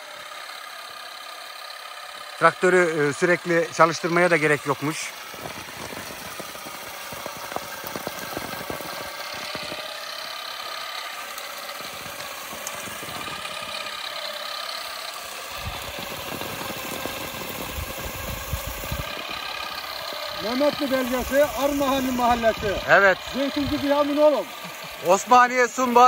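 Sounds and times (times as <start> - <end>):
electric motor whining: 0.0 - 26.0
tines clicking and rattling: 0.0 - 26.0.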